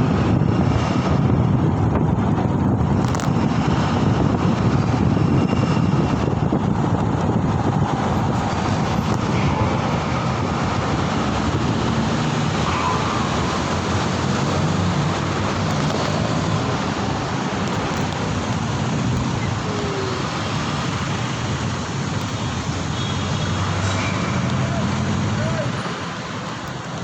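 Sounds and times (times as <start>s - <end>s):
road noise: 0.0s - 27.0s
wind: 0.0s - 27.0s.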